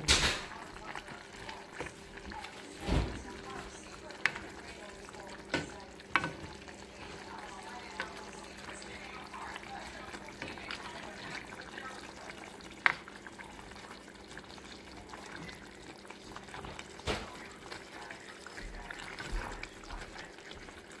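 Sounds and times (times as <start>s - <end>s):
pan simmering with bubbling: 0.0s - 21.0s.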